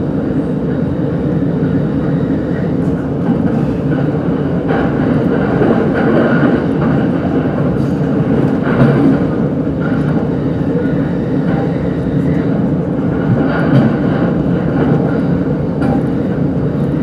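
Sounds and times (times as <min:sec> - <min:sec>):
passing train: 0:00.0 - 0:17.0
train wheels rumbling on rails: 0:00.0 - 0:17.0.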